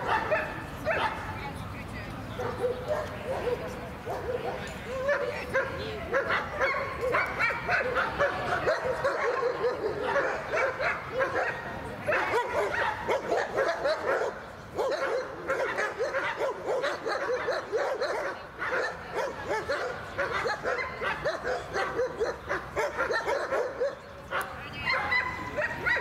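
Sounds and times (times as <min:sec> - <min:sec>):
dog barking excitedly: 0:00.0 - 0:01.2, 0:02.4 - 0:26.0.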